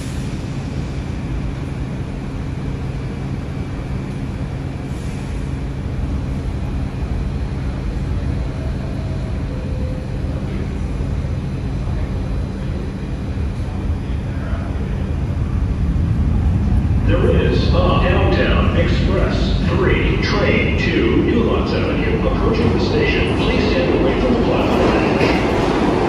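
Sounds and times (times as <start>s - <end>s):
subway train rumble and hum: 0.0s - 26.0s.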